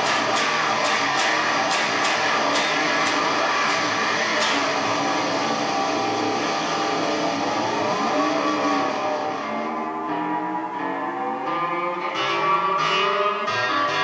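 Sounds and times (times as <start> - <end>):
ring-modulated electric guitar: 0.0 - 14.0.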